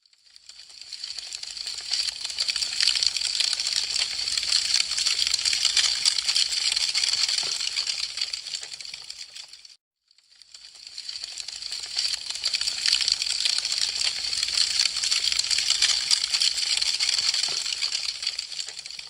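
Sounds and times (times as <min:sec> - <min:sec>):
wood fire crackling: 0:00.2 - 0:09.8, 0:10.4 - 0:19.0.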